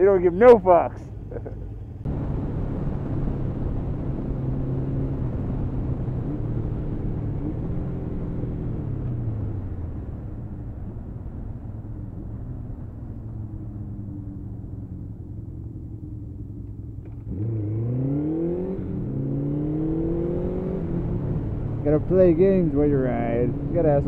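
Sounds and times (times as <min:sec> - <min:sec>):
wind and road noise: 0:00.0 - 0:24.0
motorcycle engine accelerating: 0:01.1 - 0:24.0.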